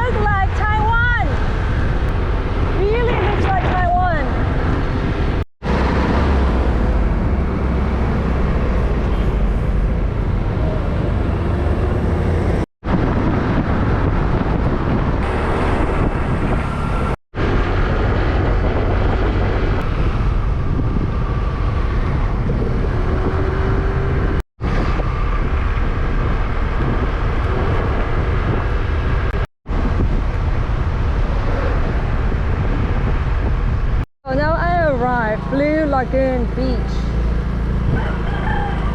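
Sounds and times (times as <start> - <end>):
scooter engine and road noise: 0.0 - 38.9
wind rushing over microphone: 0.0 - 38.9.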